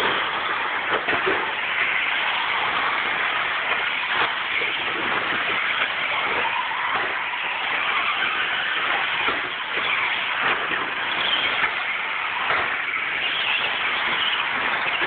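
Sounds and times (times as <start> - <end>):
remote control truck motors whining: 0.0 - 15.0
trucks landing knocks: 0.0 - 15.0
tyres churning dirt: 0.0 - 15.0.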